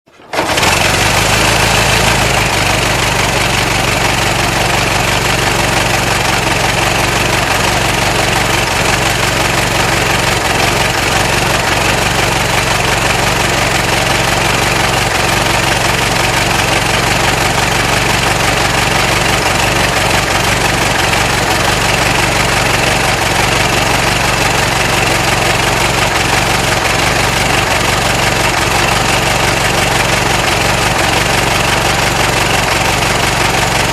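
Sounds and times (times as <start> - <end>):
car engine running steadily: 0.4 - 33.9.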